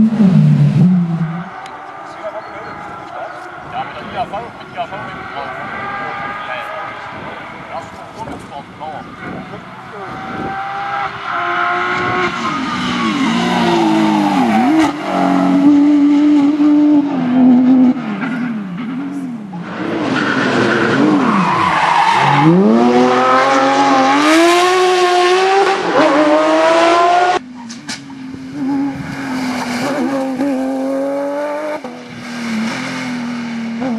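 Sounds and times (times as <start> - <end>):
rally car engine revving: 0.0 - 33.9.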